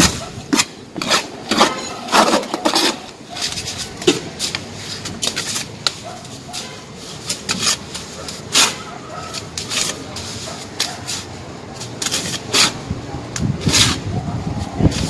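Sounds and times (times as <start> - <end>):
tool scraping wet render: 0.0 - 12.8.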